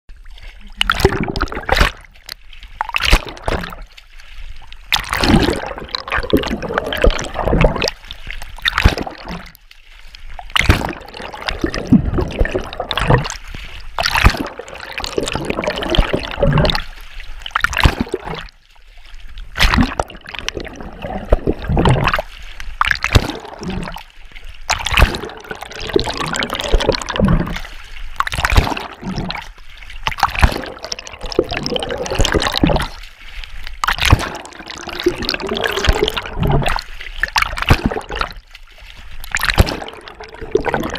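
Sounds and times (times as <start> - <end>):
water splashing and gurgling: 0.1 - 40.9
swim stroke splashes: 0.2 - 40.9.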